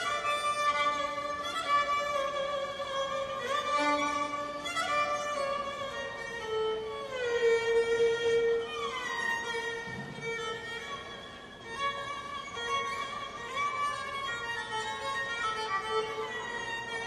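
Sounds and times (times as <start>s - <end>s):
solo violin slow melody: 0.0s - 17.0s.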